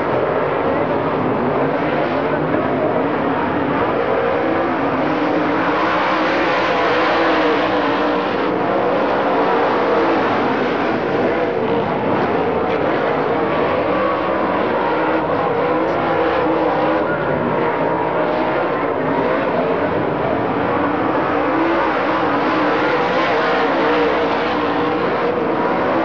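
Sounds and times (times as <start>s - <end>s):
vehicle engines running: 0.0s - 26.0s.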